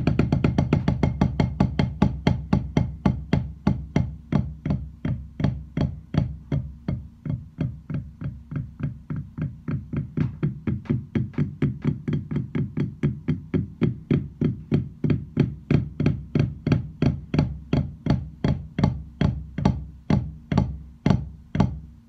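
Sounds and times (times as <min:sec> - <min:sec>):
drumsticks tapping practice pad: 0:00.0 - 0:22.0.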